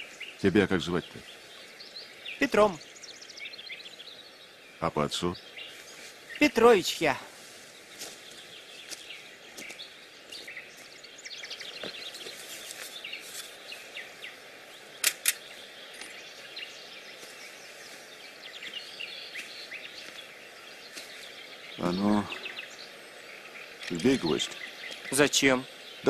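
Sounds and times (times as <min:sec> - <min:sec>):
outdoor hiss: 0:00.0 - 0:26.0
small birds chirping and singing: 0:00.0 - 0:26.0.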